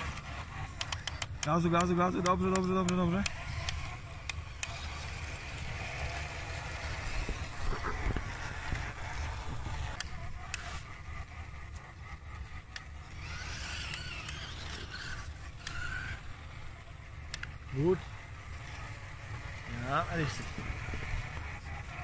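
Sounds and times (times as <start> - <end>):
toy truck motor whine: 0.0 - 22.0
tracks working over dirt: 0.0 - 22.0.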